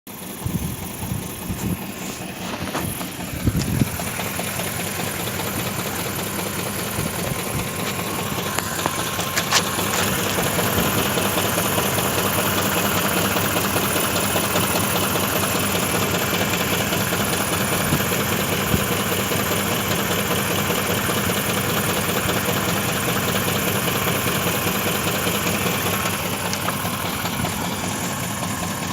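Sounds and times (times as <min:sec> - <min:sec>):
car engine idling: 0:00.1 - 0:28.9
engine knocking: 0:00.1 - 0:28.9.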